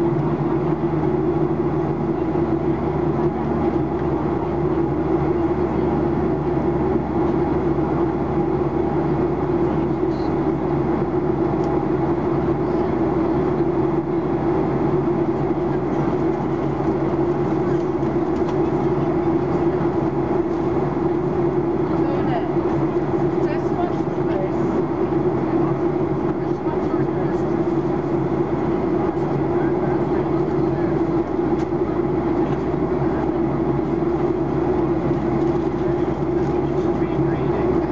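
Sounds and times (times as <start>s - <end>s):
airplane cabin engine drone: 0.0s - 37.9s
mid-pitched hum: 0.0s - 37.9s.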